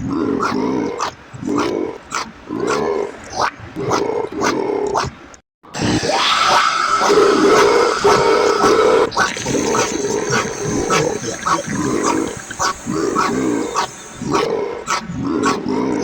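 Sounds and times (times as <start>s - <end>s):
cartoon animal-like vocal noises: 2.6s - 16.0s.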